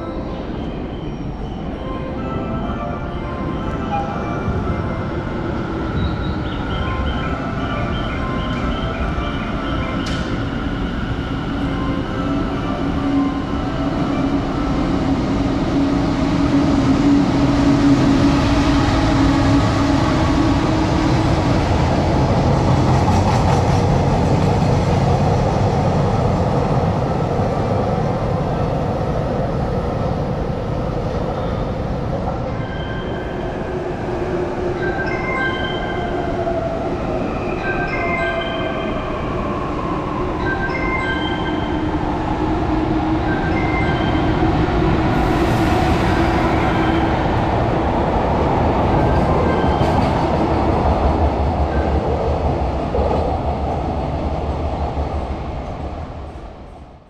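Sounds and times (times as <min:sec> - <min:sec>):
freight train wheels rumbling: 0:03.4 - 0:37.9, 0:38.8 - 0:57.0.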